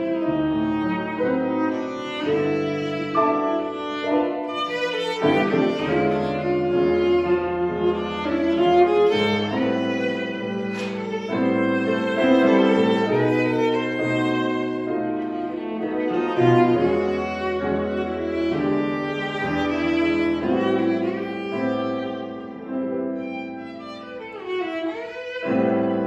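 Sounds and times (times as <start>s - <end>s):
bowed viola melody: 0.0s - 26.0s
piano accompaniment: 0.0s - 26.0s.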